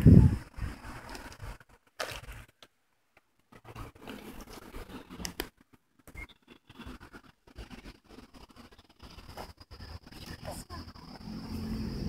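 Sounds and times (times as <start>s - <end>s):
faint scrapes and rustles: 0.2s - 2.6s, 3.4s - 11.2s.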